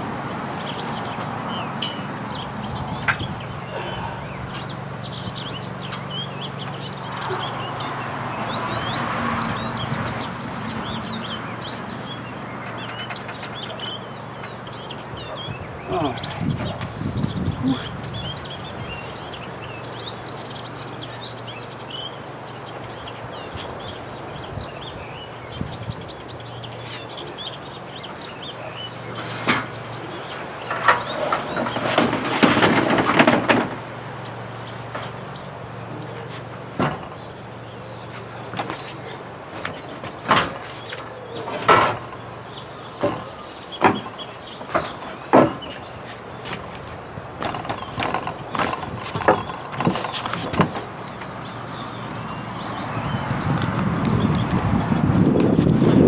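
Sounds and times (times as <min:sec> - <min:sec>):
knocks and scraping thuds: 0:00.0 - 0:19.4, 0:26.8 - 0:56.0
small birds chirping: 0:00.0 - 0:56.0.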